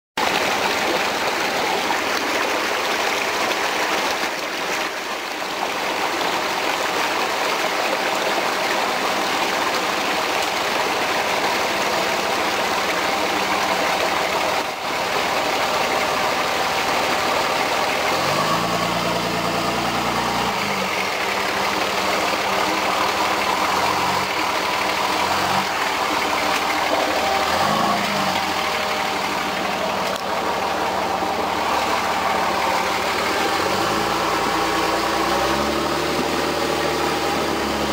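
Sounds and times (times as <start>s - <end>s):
diesel engine running and revving: 0.2s - 37.9s.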